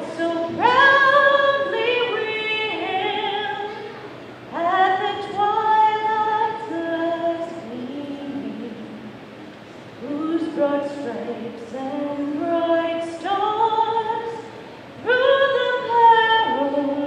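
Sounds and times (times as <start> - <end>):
woman singing unaccompanied: 0.0 - 9.3, 10.0 - 17.0.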